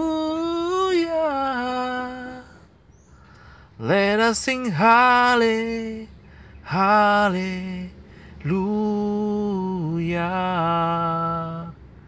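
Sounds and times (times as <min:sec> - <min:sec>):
man singing a hymn: 0:00.0 - 0:02.7, 0:03.7 - 0:12.0.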